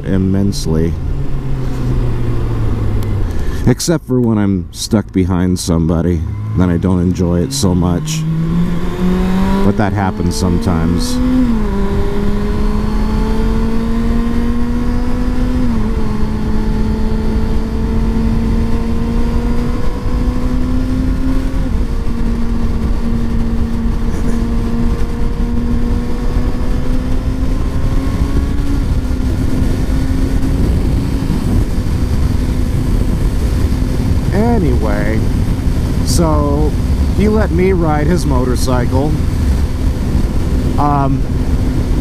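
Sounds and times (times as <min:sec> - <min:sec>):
motorcycle engine accelerating: 0:00.0 - 0:04.4, 0:05.6 - 0:42.0
wind noise: 0:05.8 - 0:42.0.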